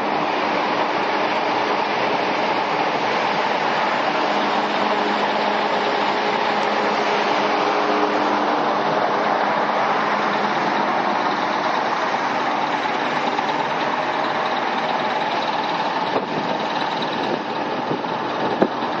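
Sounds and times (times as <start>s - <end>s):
diesel generator engine running: 0.0s - 19.0s.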